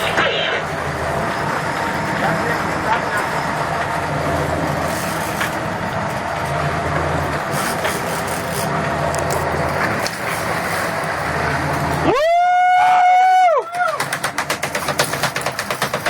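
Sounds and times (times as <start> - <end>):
boat engine droning: 0.0 - 14.2.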